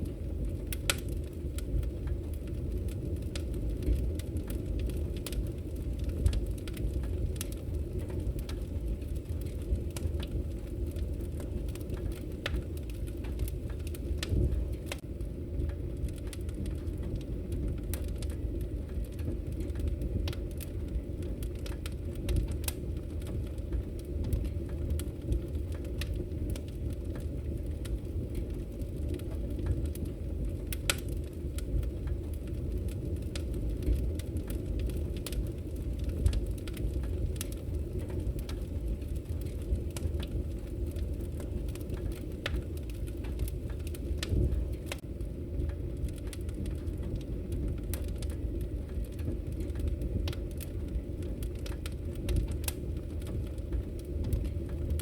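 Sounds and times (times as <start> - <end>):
fire popping and snapping: 0.0 - 55.0
low rumble of burning logs: 0.0 - 55.0.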